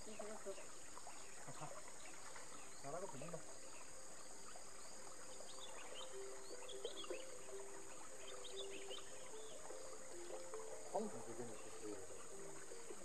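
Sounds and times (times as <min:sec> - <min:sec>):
birds chirping: 0:00.0 - 0:13.0
insects droning: 0:00.0 - 0:13.0.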